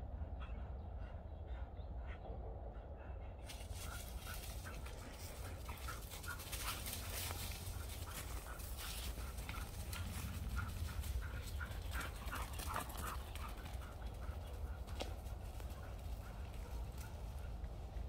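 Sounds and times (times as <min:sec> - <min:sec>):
dogs panting: 0:00.0 - 0:18.0
paws crunching dry leaves: 0:03.5 - 0:18.0.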